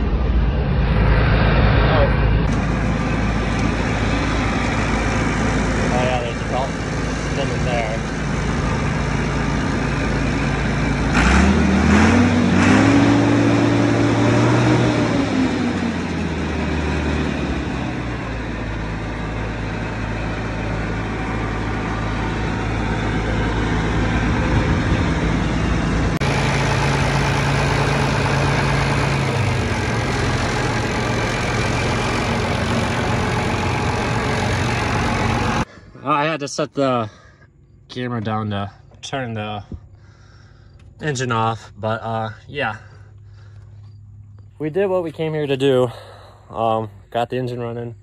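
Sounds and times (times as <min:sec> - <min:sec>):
diesel engine revving and idling: 0:00.0 - 0:48.0.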